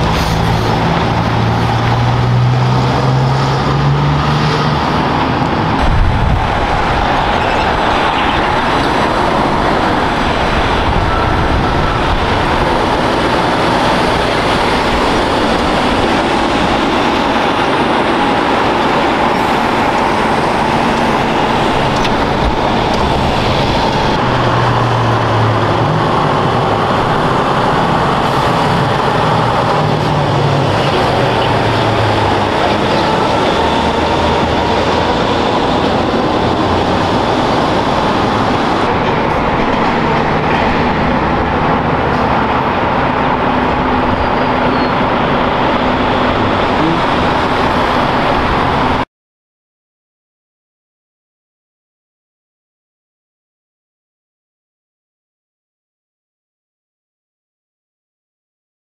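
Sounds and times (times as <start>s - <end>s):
heavy traffic rumble: 0.0s - 49.1s.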